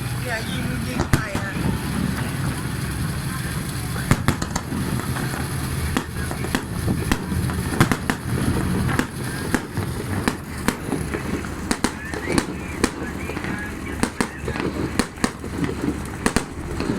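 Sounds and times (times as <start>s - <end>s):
engine droning: 0.0s - 16.9s
firecrackers popping: 0.0s - 16.9s.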